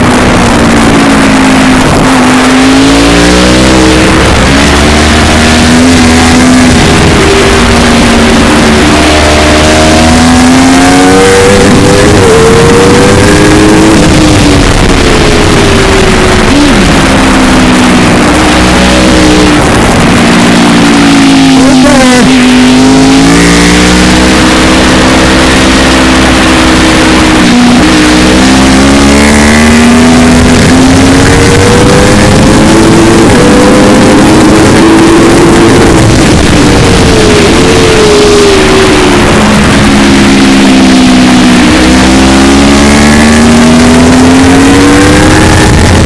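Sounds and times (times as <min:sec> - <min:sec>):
racing engine at speed: 0:00.0 - 0:46.0
wind rush: 0:00.0 - 0:46.0.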